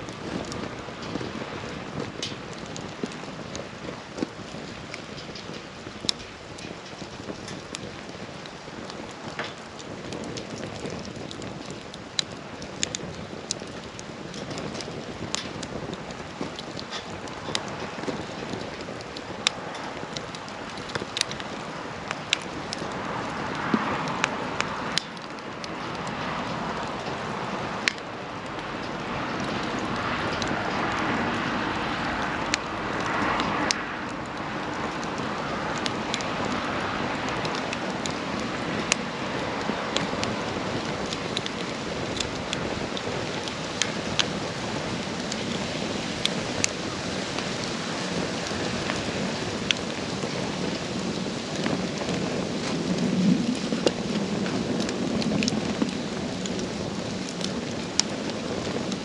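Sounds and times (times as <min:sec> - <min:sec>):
burning wood crackling and popping: 0:00.0 - 0:59.0
rush of flames: 0:00.0 - 0:59.0.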